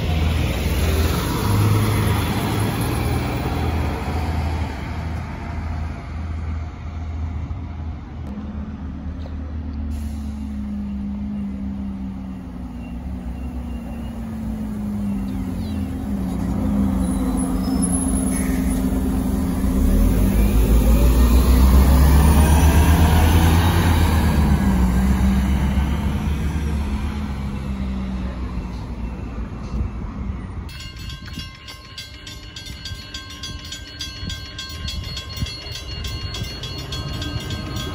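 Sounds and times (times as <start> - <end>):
bus engine driving past: 0.0 - 31.3.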